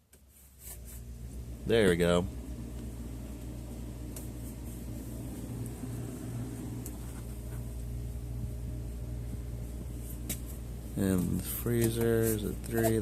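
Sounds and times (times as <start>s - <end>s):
refrigerator compressor humming: 0.0s - 13.0s.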